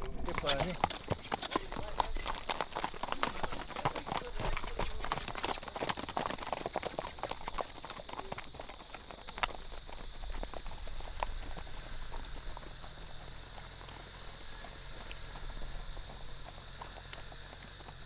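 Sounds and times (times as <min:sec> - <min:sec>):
horse hooves clip-clopping on dirt: 0:00.0 - 0:18.0.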